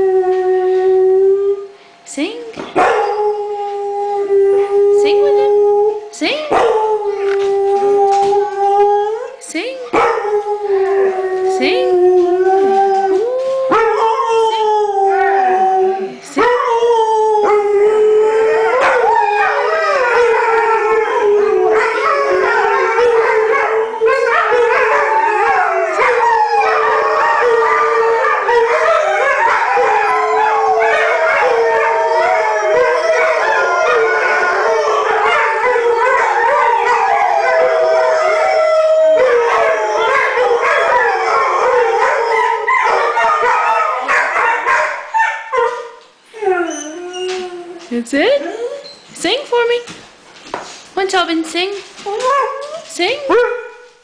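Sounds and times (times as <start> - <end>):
dogs howling in chorus: 2.8 - 48.8.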